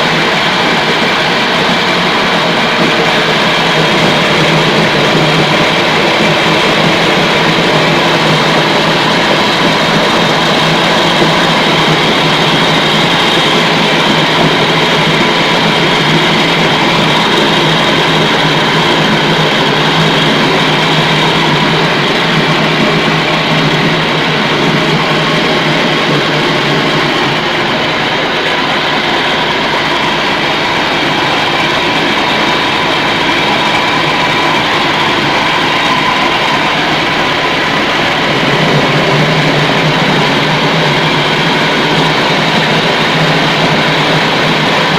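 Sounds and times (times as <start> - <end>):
meatball grinding machine running: 0.0 - 44.9.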